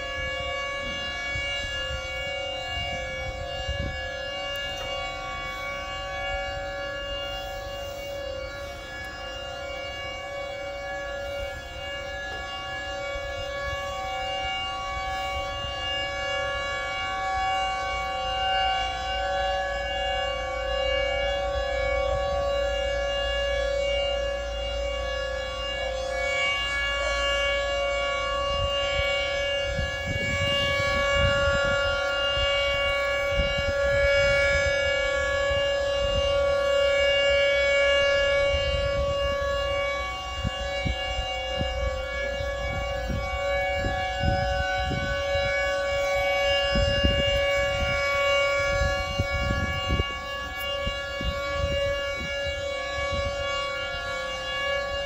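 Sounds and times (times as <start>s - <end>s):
warning siren tone: 0.0s - 55.0s.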